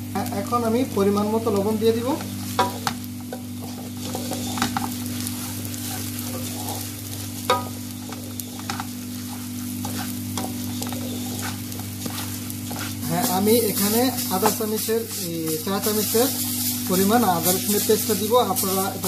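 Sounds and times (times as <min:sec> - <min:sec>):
rice sizzling in oil: 0:00.0 - 0:19.0
spatula scraping and tapping pot: 0:02.2 - 0:19.0.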